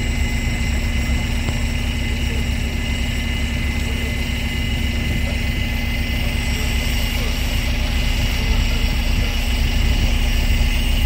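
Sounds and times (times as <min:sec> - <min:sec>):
bus engine hum: 0:00.0 - 0:11.0.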